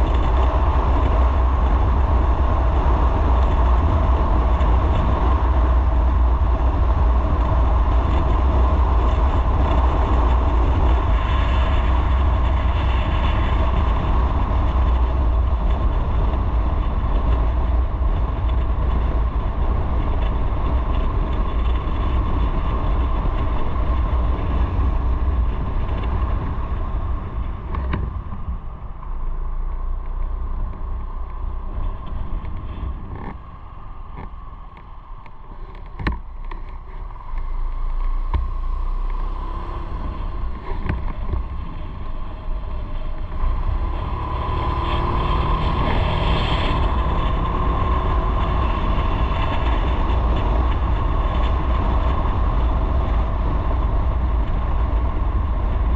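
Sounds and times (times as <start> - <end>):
motorcycle engine rumble: 0.0 - 55.9
wind noise: 0.0 - 55.9.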